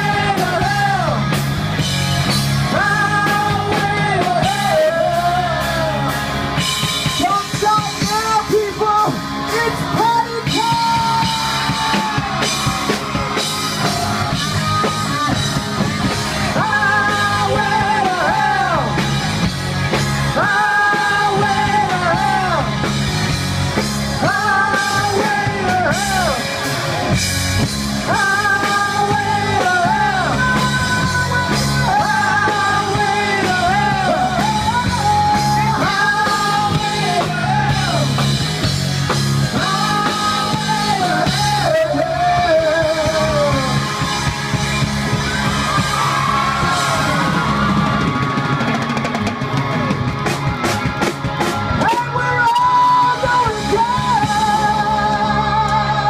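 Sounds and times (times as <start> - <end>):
lead vocal singing: 0.0 - 49.4, 51.8 - 56.0
live rock band playing: 0.0 - 56.0.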